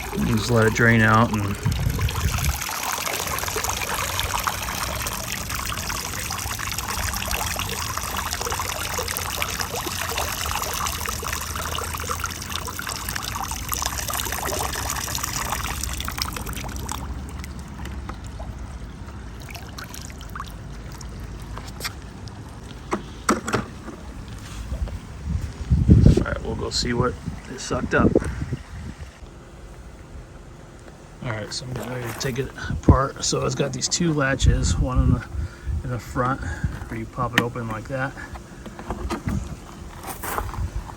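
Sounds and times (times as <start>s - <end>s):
water trickling and splashing: 0.0s - 29.2s, 31.2s - 40.9s.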